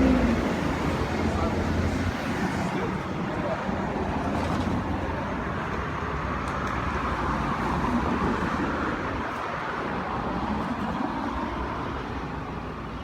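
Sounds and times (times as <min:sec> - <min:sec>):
passing traffic rush: 0:00.0 - 0:13.0.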